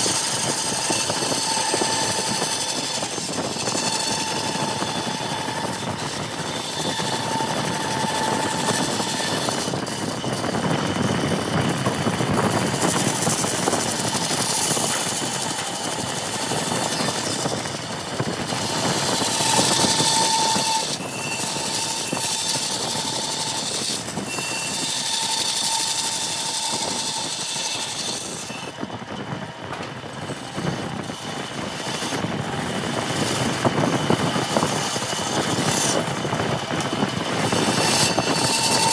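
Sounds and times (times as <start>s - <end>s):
bandsaw cutting wood: 0.0s - 38.9s.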